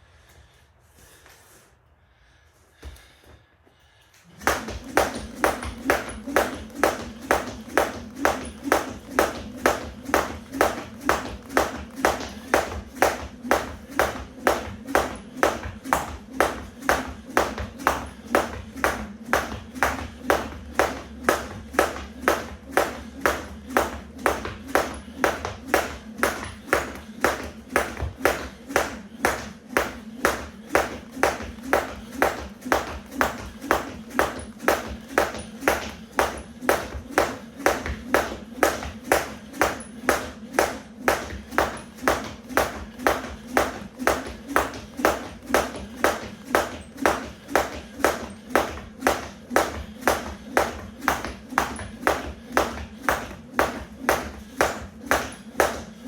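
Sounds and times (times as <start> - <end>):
skipping rope slapping floor: 4.2 - 56.0.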